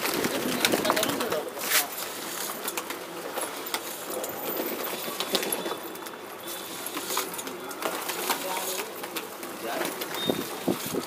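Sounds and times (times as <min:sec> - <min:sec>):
pigeons pecking on concrete: 0:00.0 - 0:11.0.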